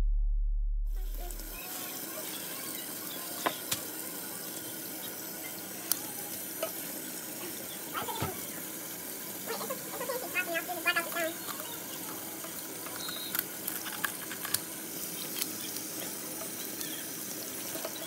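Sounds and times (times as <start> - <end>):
tap water running into sink: 1.2 - 18.0.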